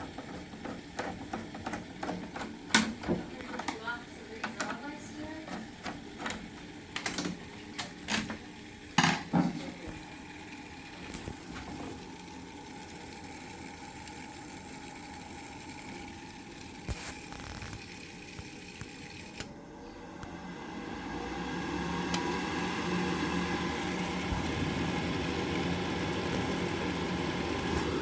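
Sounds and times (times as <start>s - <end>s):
boiler humming: 0.0s - 28.0s.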